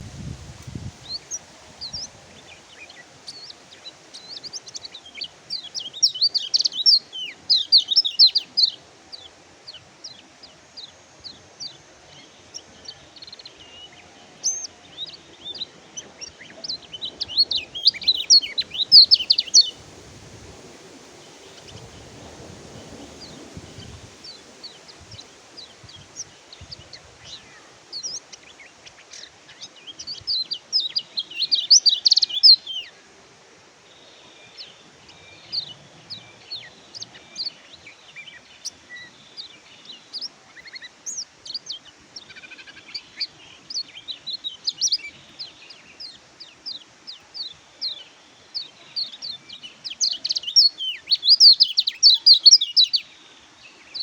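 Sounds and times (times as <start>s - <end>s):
bird twittering high chirps: 0.6s - 19.8s, 20.6s - 33.0s, 34.0s - 54.0s.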